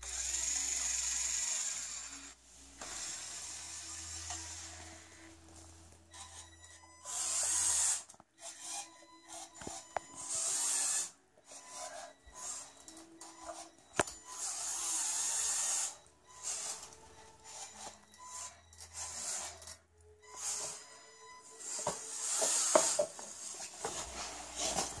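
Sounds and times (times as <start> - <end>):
toy electric motor whirring: 0.0 - 5.4, 6.1 - 25.0.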